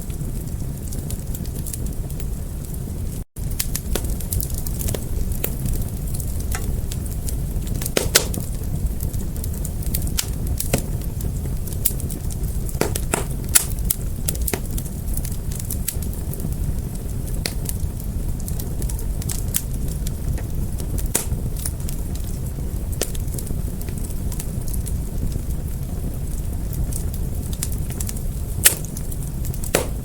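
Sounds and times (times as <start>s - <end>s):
fire crackling and popping: 0.0s - 30.0s
low rumble of flame: 0.0s - 30.0s.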